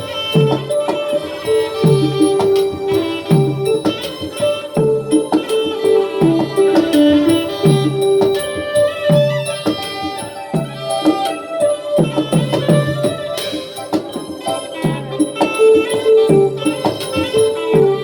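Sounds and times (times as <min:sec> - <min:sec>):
hand drum strokes bending pitch: 0:00.0 - 0:18.0
held melodic line: 0:00.0 - 0:18.0.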